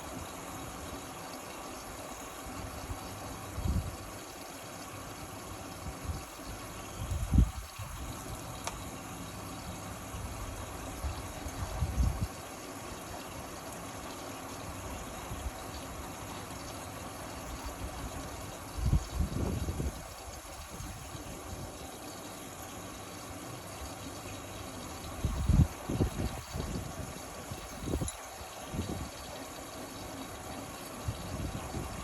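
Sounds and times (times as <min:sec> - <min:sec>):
washing machine humming: 0:00.0 - 0:32.0.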